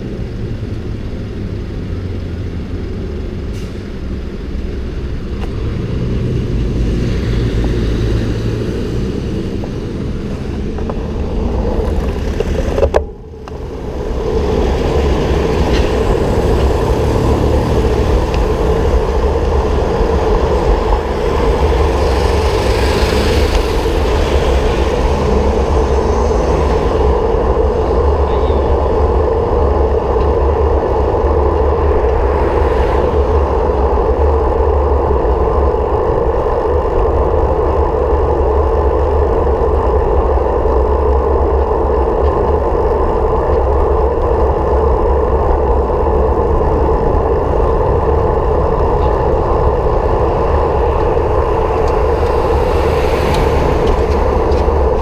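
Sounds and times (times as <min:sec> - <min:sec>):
vehicle road noise: 0:00.0 - 0:55.0
wind: 0:00.0 - 0:55.0.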